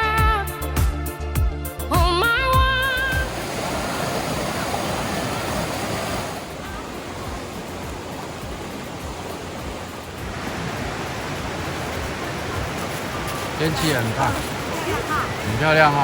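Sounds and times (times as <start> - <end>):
stream water rushing: 2.8 - 16.0.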